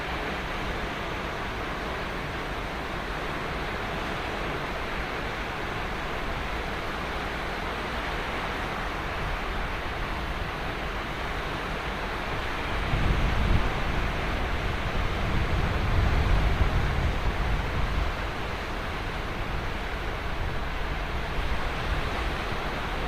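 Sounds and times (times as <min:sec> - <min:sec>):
ocean surf on sandy beach: 0:00.0 - 0:23.0.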